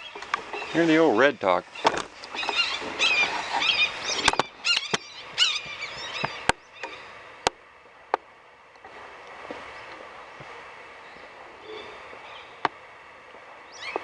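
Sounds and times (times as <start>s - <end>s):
birds chirping: 0.0s - 7.9s, 8.7s - 14.0s.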